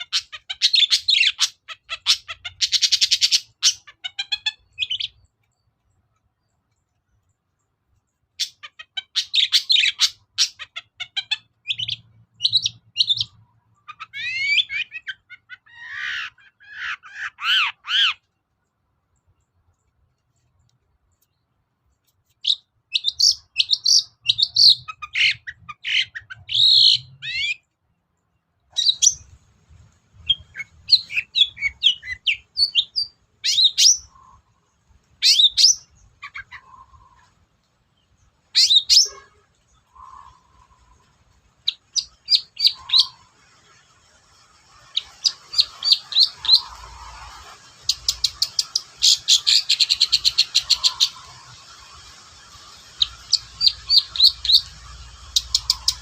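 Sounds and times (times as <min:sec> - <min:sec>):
bird chirping and trilling: 0:00.0 - 0:20.5, 0:21.2 - 0:37.4, 0:38.0 - 0:56.0.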